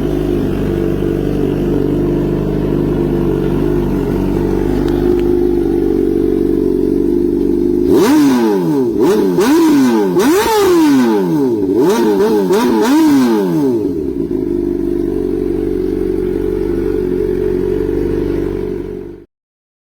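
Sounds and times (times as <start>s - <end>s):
motorcycle engine idling and revving: 0.0s - 19.3s.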